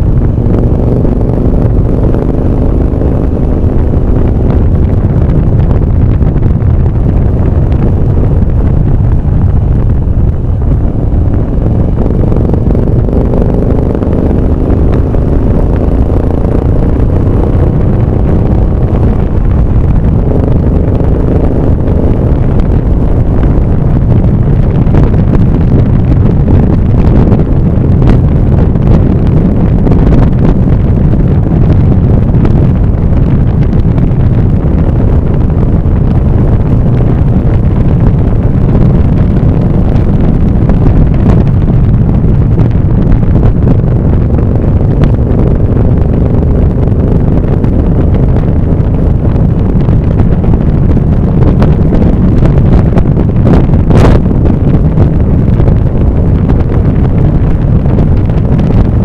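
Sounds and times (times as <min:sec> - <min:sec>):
vehicle engine and road noise: 0:00.0 - 0:59.0
wind rush on microphone: 0:00.0 - 0:59.0.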